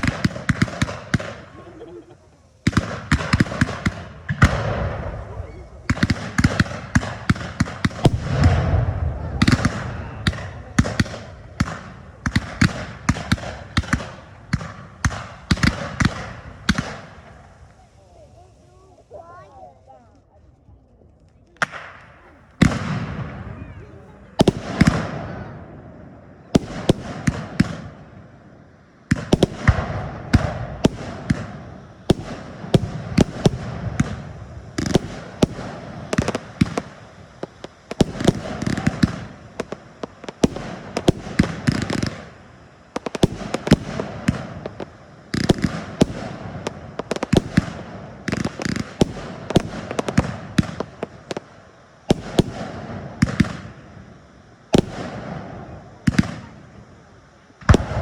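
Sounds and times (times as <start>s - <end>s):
aerial fireworks bursting: 0.0s - 58.0s.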